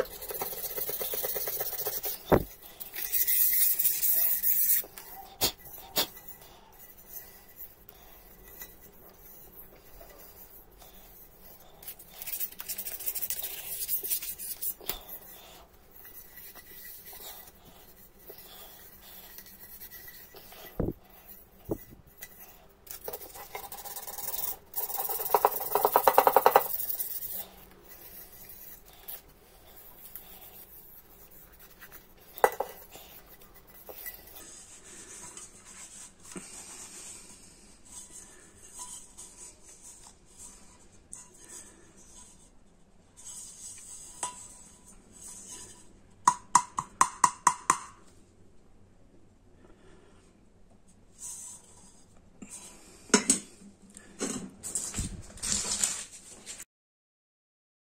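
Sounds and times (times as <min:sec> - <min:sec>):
scraping and rubbing metal bowl: 0:00.0 - 0:46.4, 0:51.1 - 0:53.6.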